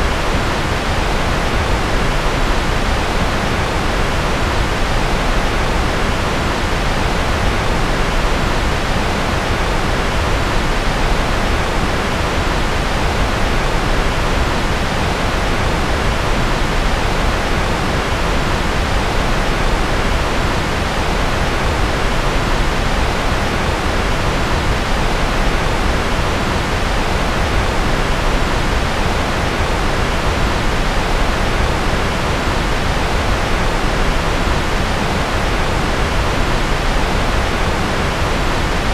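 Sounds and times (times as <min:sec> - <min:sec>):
steady noise hiss: 0:00.0 - 0:38.9.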